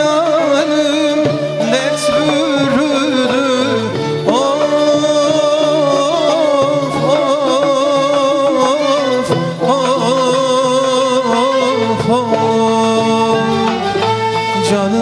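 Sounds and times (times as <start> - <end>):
folk melody with wavering notes: 0.0 - 15.0.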